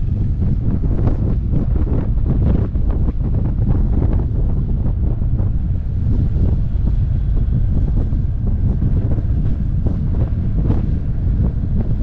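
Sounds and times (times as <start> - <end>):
wind buffeting on microphone: 0.0 - 12.0.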